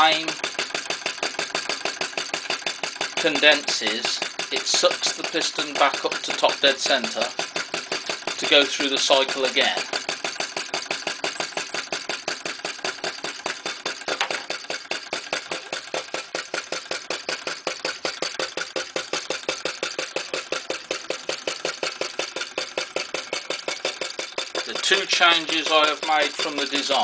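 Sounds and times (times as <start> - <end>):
model engine clicking: 0.0 - 27.0.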